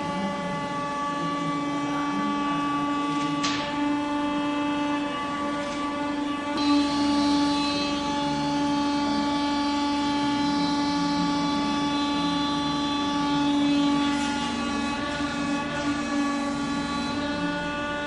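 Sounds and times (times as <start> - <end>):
wood lathe motor humming: 0.0 - 18.0.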